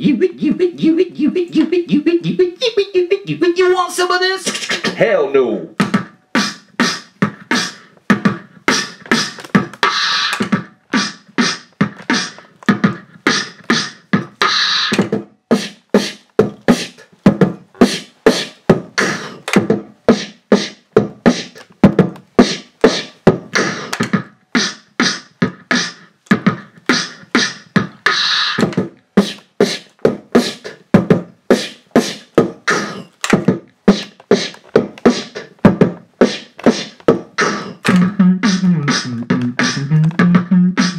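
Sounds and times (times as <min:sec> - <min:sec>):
looped beatboxing beat: 0:00.0 - 0:05.1, 0:05.7 - 0:40.9.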